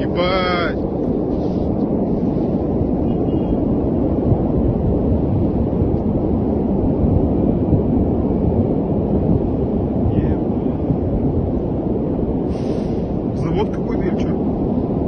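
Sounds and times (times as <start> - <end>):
deep distant rumble: 0.0 - 15.0.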